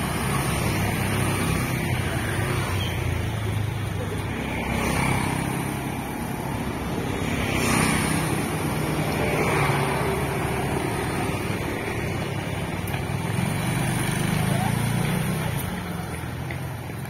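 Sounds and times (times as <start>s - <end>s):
motorcycles and scooters passing: 0.0s - 17.0s
street noise: 0.0s - 17.0s.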